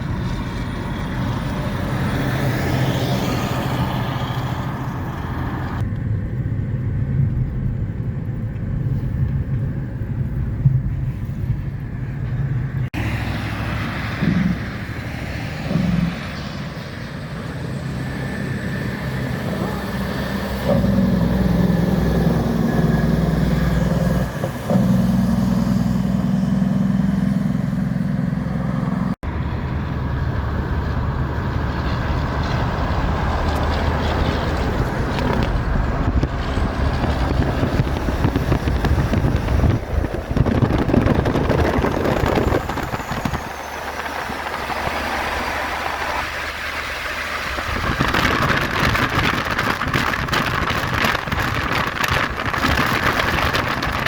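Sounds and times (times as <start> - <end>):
heavy trucks and traffic driving by: 0.0 - 54.0.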